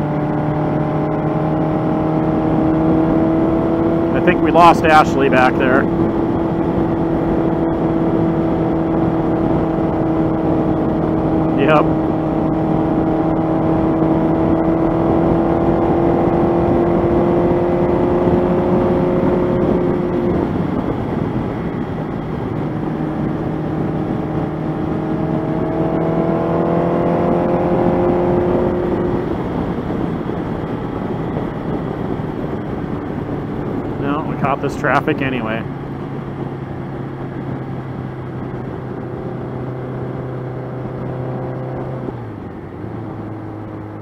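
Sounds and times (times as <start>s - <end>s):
heavy wind: 0.0s - 44.0s
motorcycle engine running: 0.0s - 44.0s
road noise: 0.0s - 44.0s.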